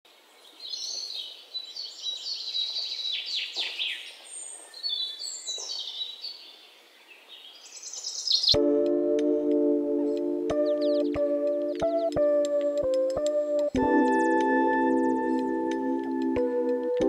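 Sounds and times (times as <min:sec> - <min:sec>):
songbirds chirping and trilling: 0:00.1 - 0:17.0.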